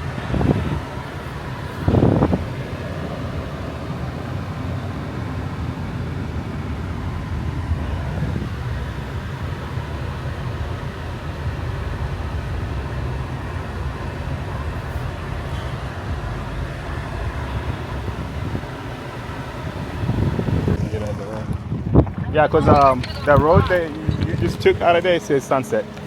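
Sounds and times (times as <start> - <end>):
car road and engine noise: 0.0 - 26.0.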